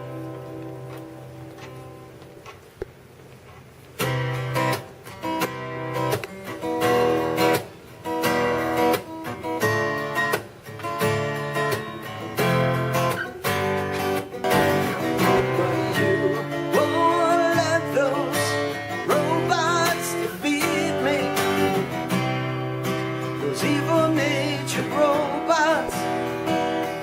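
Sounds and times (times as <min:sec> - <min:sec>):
guitar melody with vibrato: 0:00.0 - 0:02.7, 0:03.8 - 0:27.0
guitar strummed chords: 0:00.0 - 0:03.1, 0:03.9 - 0:27.0.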